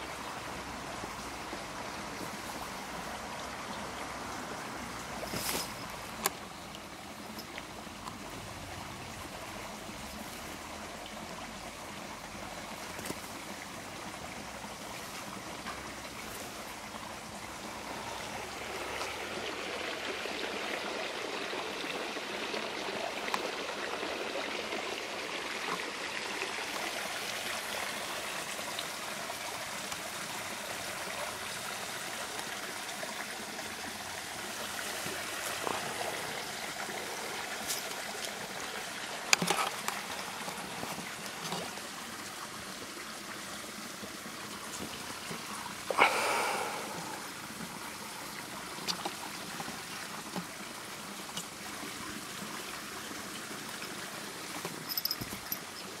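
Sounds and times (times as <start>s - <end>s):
steady hissing noise: 0.0s - 56.0s.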